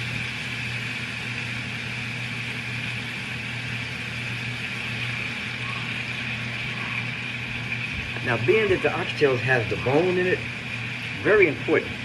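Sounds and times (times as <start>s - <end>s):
meat sizzling in a pan: 0.0s - 11.8s
low even hum: 0.0s - 12.0s.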